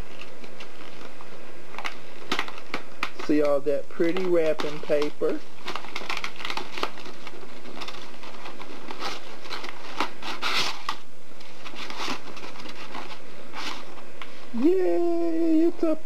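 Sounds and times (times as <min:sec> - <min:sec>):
wrapping paper tearing and crumpling: 0:00.0 - 0:15.0.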